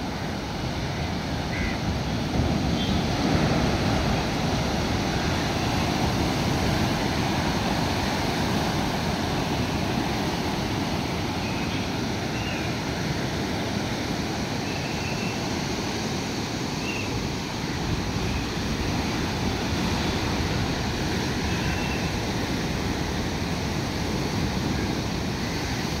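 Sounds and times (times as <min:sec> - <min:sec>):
waves breaking over rocks: 0:00.0 - 0:26.0.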